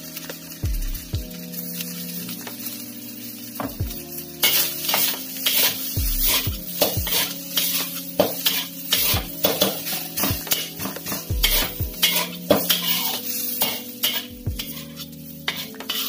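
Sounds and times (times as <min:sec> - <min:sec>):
frying sizzle: 0:00.0 - 0:16.0
metal spatula scraping a wok: 0:01.5 - 0:16.0.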